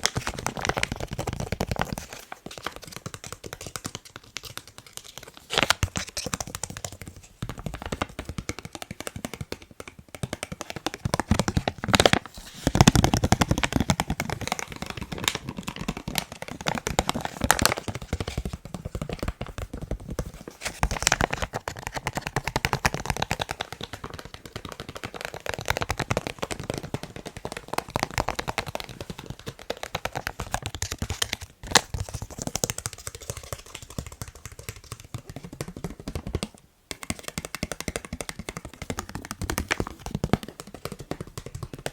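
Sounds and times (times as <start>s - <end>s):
fingers tapping on face mask: 0.0s - 41.9s.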